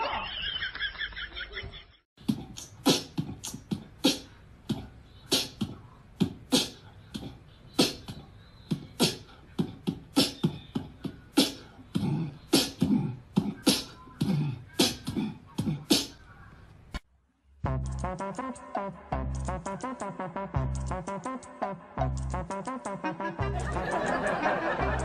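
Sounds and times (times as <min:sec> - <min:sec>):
beatboxing percussive beat: 0:02.2 - 0:16.2, 0:17.7 - 0:25.0.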